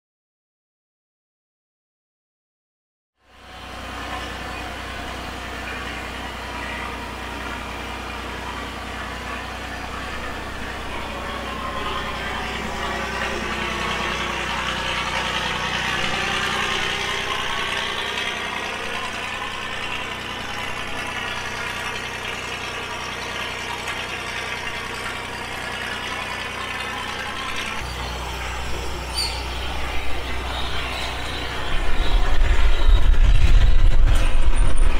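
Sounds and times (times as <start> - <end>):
diesel engine idling: 3.2 - 34.9.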